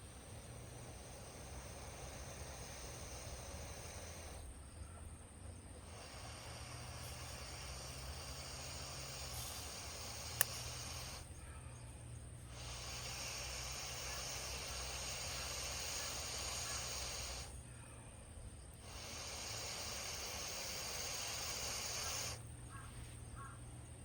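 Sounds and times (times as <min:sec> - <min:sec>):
bonfire hissing: 0:00.0 - 0:04.6, 0:05.8 - 0:11.3, 0:12.3 - 0:17.6, 0:18.6 - 0:22.5.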